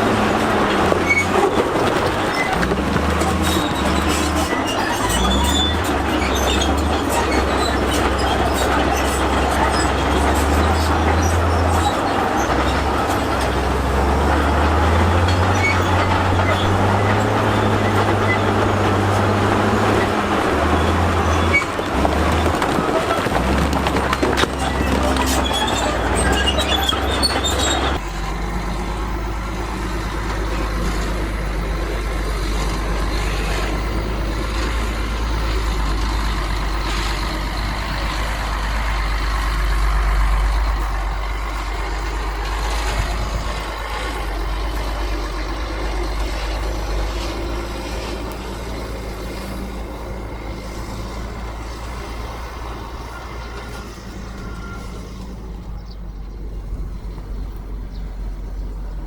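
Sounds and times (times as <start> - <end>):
diesel machinery engine rumble: 0.0 - 59.0.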